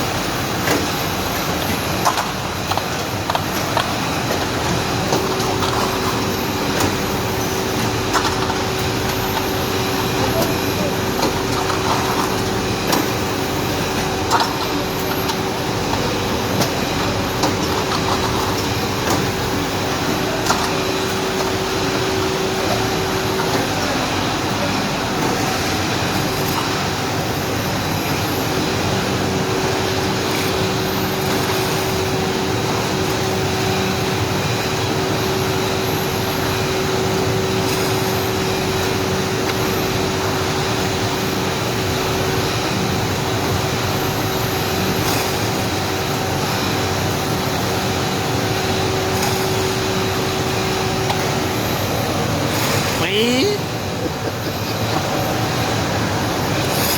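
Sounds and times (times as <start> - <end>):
machine humming: 0.0 - 56.9.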